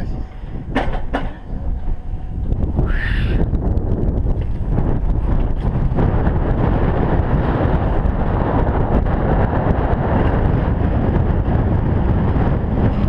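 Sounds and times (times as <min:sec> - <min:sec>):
wheels rumbling on rails: 0:00.0 - 0:13.0
wind buffeting microphone: 0:00.0 - 0:13.0.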